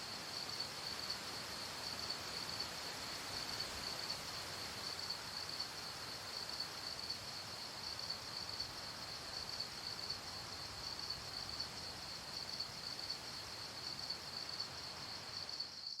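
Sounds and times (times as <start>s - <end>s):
crickets chirping: 0.0s - 16.0s
faint background hiss: 0.0s - 16.0s.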